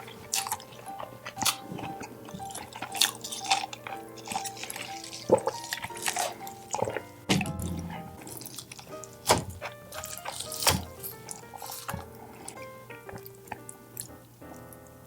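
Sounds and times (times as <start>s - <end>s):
wet eating sounds: 0.0s - 14.9s
light instrumental music: 0.0s - 15.0s.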